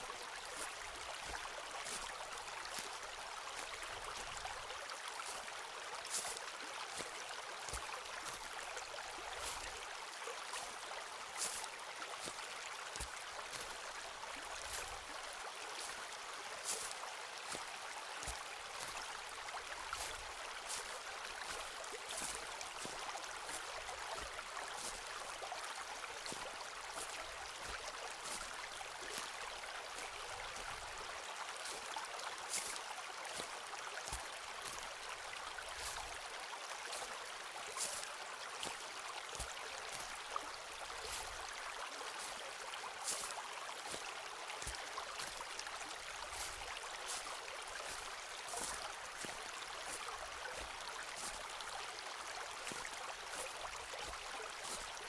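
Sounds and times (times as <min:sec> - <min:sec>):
flowing water: 0:00.0 - 0:55.0
footsteps crunching in forest: 0:00.0 - 0:55.0.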